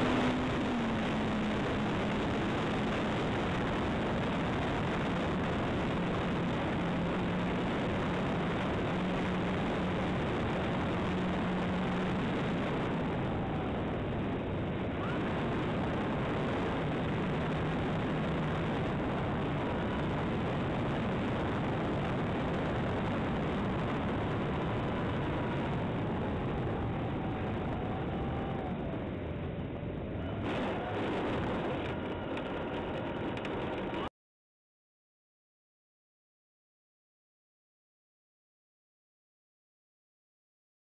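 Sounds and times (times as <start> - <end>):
propeller and wind rush: 0.0 - 34.1.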